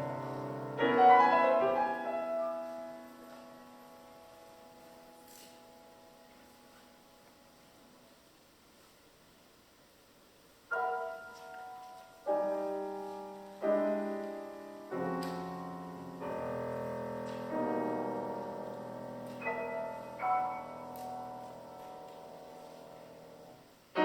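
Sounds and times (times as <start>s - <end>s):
piano chords: 0.0s - 8.0s, 10.7s - 24.0s.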